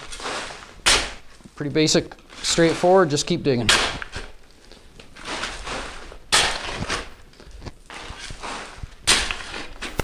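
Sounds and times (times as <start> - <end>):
gravel tossed onto plastic tarp: 0.0 - 10.0
shovel scraping gravelly soil: 0.0 - 10.0.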